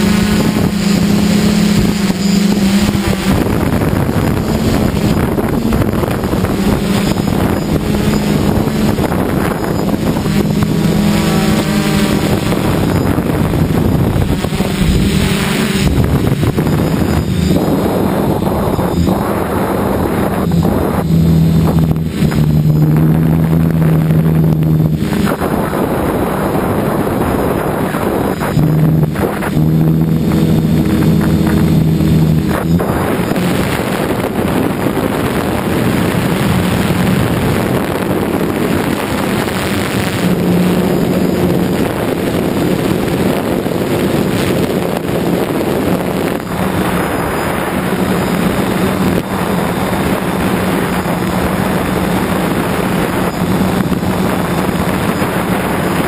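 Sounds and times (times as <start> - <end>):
drone propellers humming: 0.0 - 56.0
wind on microphone: 0.0 - 56.0.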